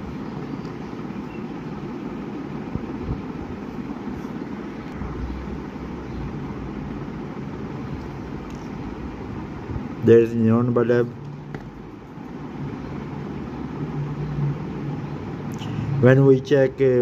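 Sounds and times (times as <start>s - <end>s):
low background rumble: 0.0s - 15.9s.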